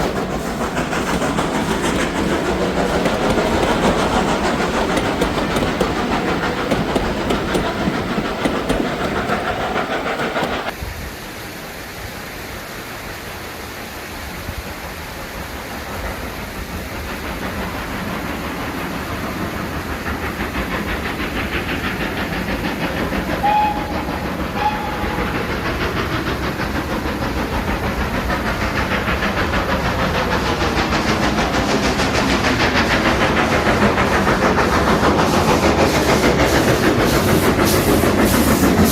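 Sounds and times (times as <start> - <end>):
train rumbling on rails: 0.0 - 10.8, 14.5 - 38.9.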